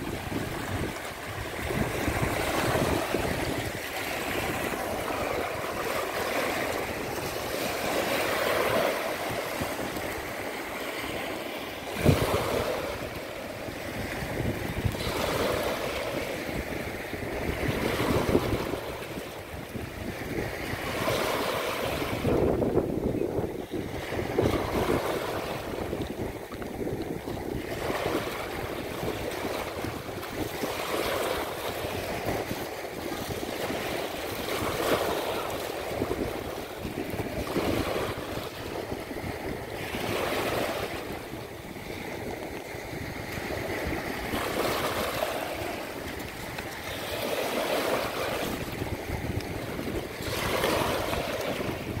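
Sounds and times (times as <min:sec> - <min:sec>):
waves washing over pebble shore: 0:00.0 - 0:52.0
wind rumbling on microphone: 0:00.0 - 0:52.0.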